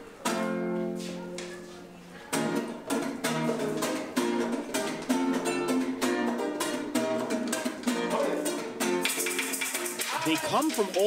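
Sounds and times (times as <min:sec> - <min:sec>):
acoustic guitar strumming: 0:00.0 - 0:01.7, 0:02.3 - 0:11.0.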